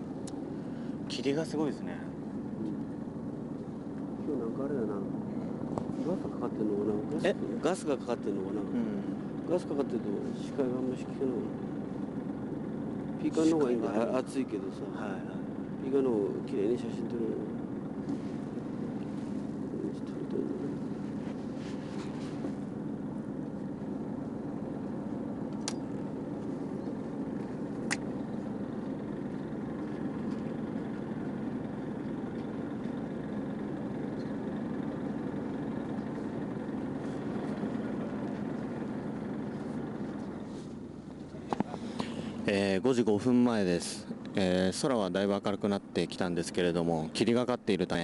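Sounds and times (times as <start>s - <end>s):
boat engine droning: 0.0s - 48.0s.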